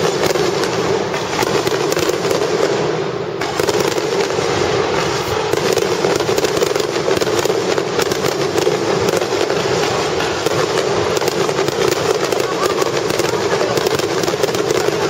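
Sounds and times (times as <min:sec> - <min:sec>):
fireworks bursting: 0:00.0 - 0:15.0
fireworks crackling: 0:00.0 - 0:15.0.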